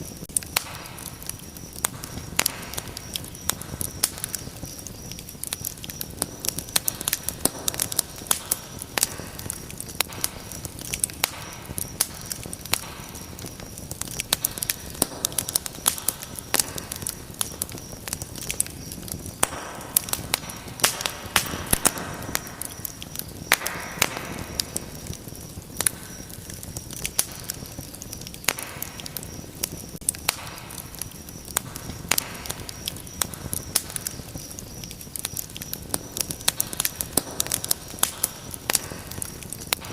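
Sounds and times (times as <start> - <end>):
hissing flame: 0.0 - 39.9
wood fire crackling in fireplace: 0.0 - 39.9.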